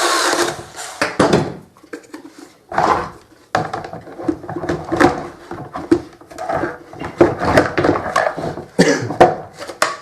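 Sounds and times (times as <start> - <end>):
plastic parts knocking and clicking: 1.0 - 10.0.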